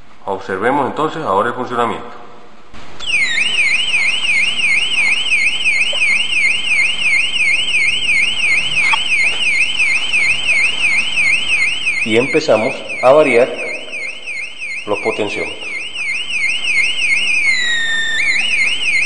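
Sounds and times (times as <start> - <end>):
warbling electronic siren tone: 3.0 - 19.0.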